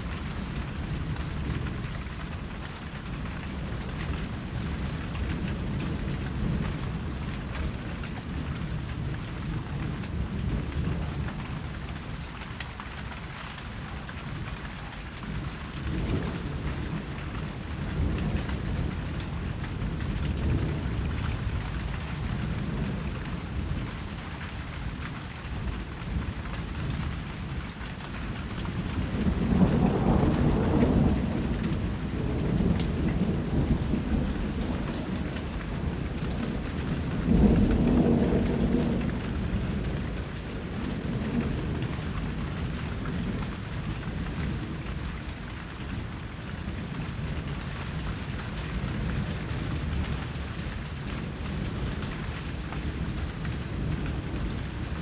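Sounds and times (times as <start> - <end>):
thunder rumbling: 0.0 - 12.3, 13.6 - 24.2, 25.0 - 55.0
steady rain falling: 0.0 - 55.0.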